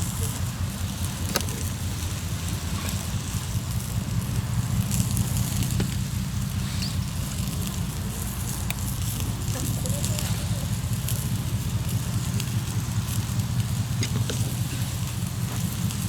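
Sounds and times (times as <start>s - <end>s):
campfire crackling and popping: 0.0s - 16.0s
steady low rumble: 0.0s - 16.0s.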